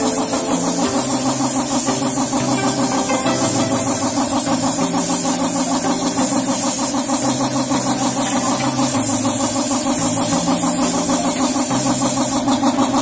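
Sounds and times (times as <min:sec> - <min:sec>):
pulsing compressor motor: 0:00.0 - 0:13.0
spray paint gun hissing: 0:00.0 - 0:13.0.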